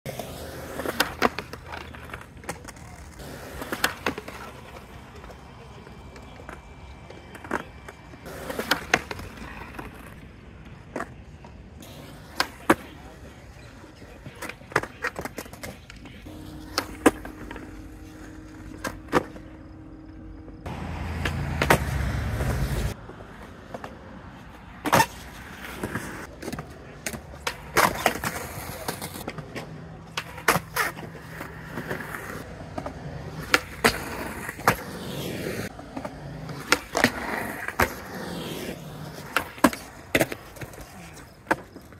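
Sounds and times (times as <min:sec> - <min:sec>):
skateboard wheels rolling on concrete: 0:00.0 - 0:41.9
skateboard clacks: 0:00.1 - 0:19.7, 0:21.2 - 0:41.9.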